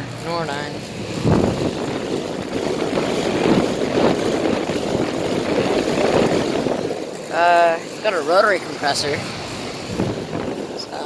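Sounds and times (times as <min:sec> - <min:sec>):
air conditioner fan rushing: 0:00.0 - 0:11.0.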